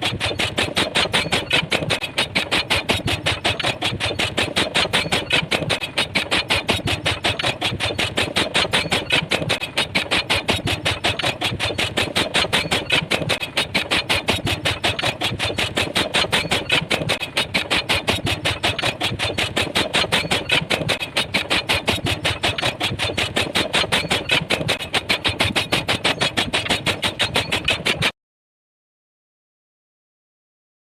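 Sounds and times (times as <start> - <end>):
pile driver hammering: 0.0 - 28.1.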